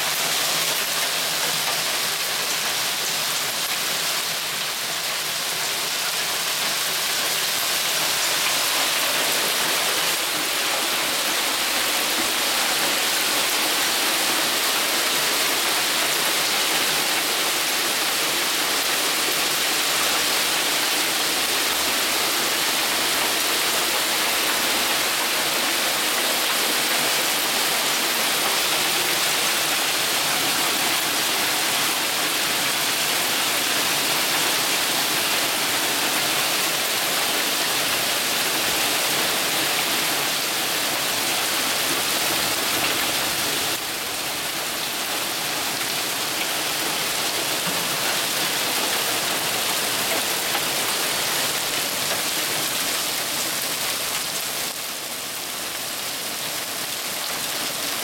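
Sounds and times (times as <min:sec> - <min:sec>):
hail and rain pelting pavement and cars: 0:00.0 - 0:58.0.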